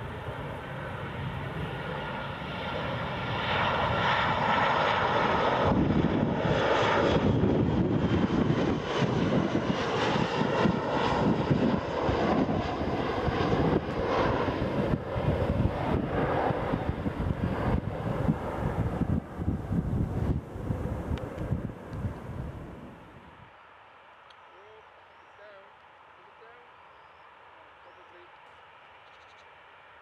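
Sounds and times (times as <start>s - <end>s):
jet engines whining and rumbling: 0.0s - 30.0s.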